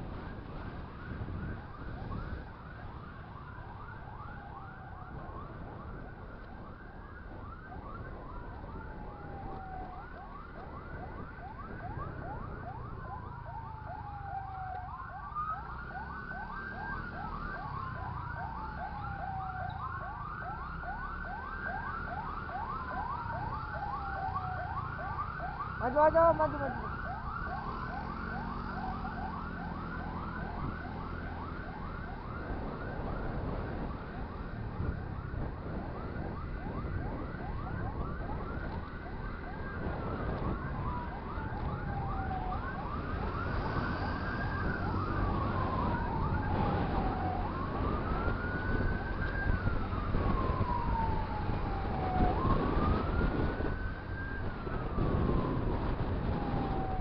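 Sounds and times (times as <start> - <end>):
siren wail: 0.0 - 57.0
vehicle and road noise: 0.0 - 57.0
siren yelp: 0.1 - 57.0.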